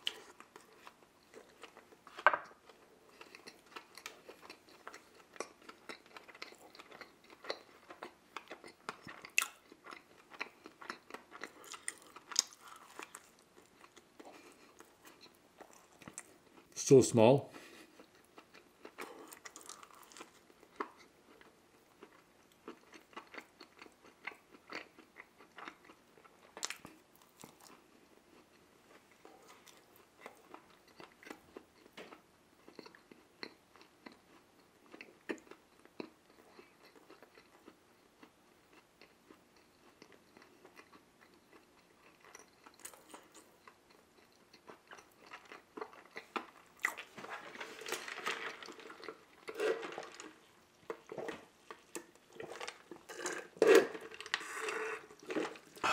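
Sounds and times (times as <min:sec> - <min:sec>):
chewing soft donut: 0:00.0 - 0:16.8, 0:17.5 - 0:55.9.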